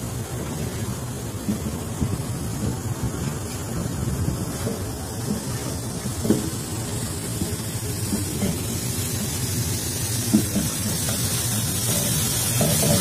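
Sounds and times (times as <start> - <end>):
hiss: 0.0 - 13.0.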